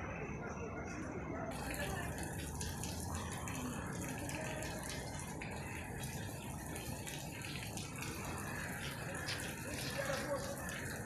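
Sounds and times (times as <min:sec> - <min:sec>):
water washing over street: 0:00.9 - 0:11.0.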